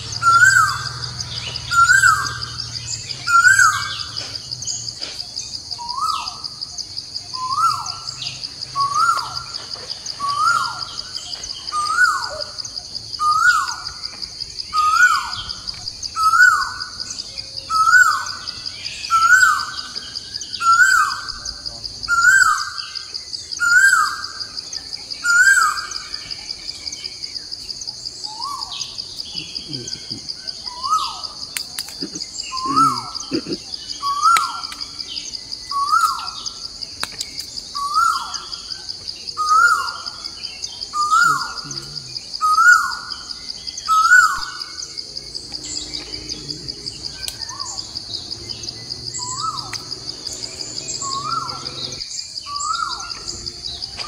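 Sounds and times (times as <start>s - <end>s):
bird calling: 0.0s - 24.5s, 28.3s - 36.7s, 37.4s - 54.0s
high-pitched insect drone: 0.0s - 54.0s.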